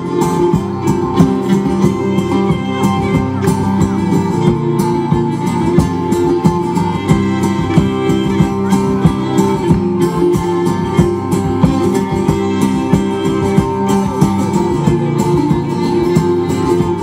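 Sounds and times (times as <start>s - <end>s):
acoustic folk band playing: 0.0s - 17.0s.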